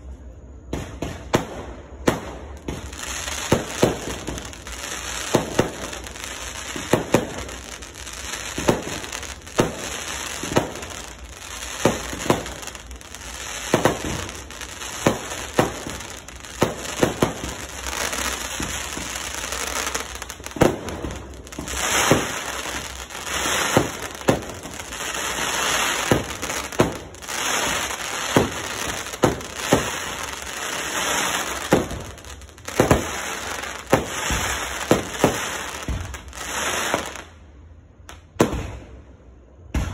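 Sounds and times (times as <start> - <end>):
crackling firework bursts: 0.0 - 39.0
firework bangs: 0.5 - 37.3, 38.1 - 39.0, 39.6 - 39.9.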